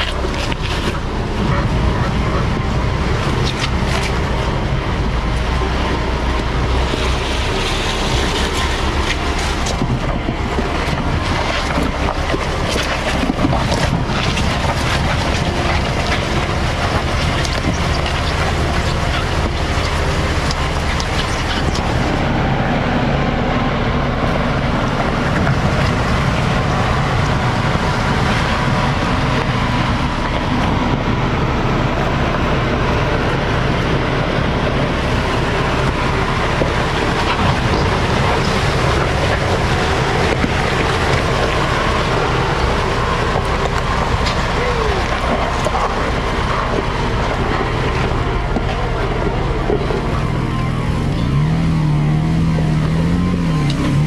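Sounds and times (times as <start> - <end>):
suv engine and running gear: 0.0 - 54.0.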